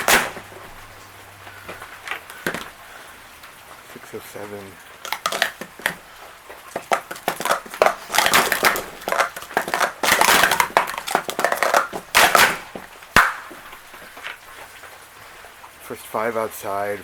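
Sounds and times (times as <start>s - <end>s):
plastic cups clacking and sliding: 0.0s - 14.9s.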